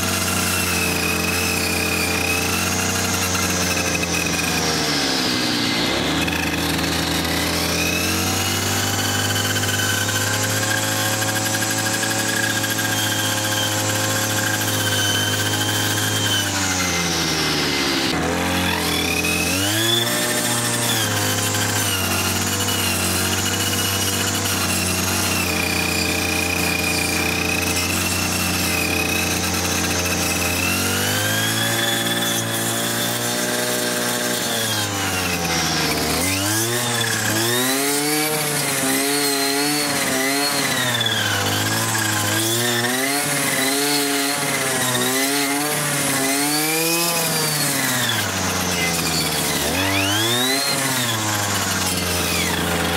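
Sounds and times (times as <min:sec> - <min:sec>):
brush cutter motor running: 0:00.0 - 0:52.9
saw blade cutting watermelon: 0:00.0 - 0:52.9.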